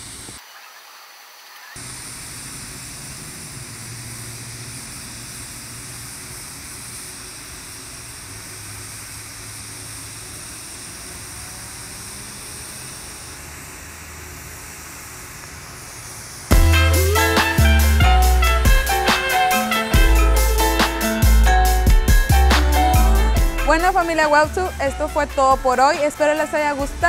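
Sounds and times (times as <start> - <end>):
welding arc hissing: 0.0 - 27.0.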